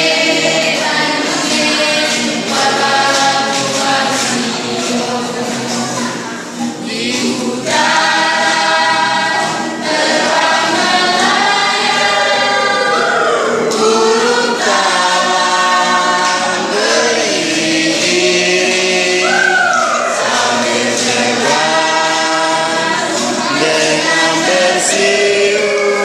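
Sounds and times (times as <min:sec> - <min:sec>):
choir singing in harmony: 0:00.0 - 0:26.0.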